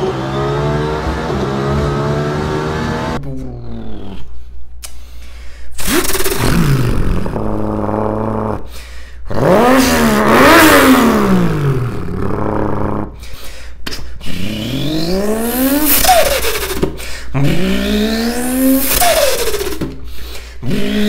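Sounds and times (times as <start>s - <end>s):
man imitating engine revs: 0.0s - 4.4s, 5.8s - 13.2s, 14.2s - 20.0s, 20.6s - 21.0s.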